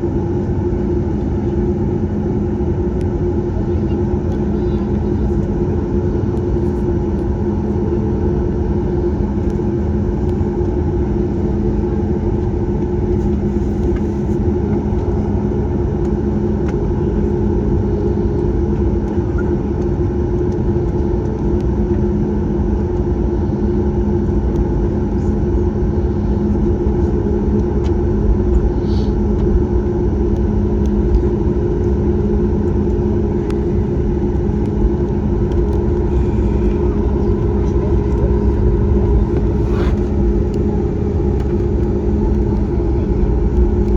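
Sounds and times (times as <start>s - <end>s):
airplane cabin engine rumble: 0.0s - 43.9s.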